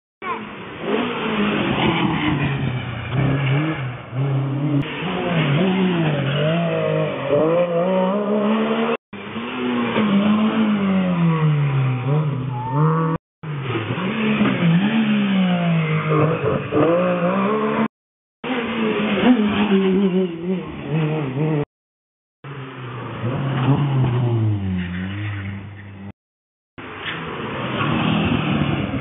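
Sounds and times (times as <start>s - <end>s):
rally cars passing at speed: 0.2s - 21.7s, 22.5s - 26.1s, 26.8s - 29.0s
engines revving through gear changes: 0.2s - 26.2s.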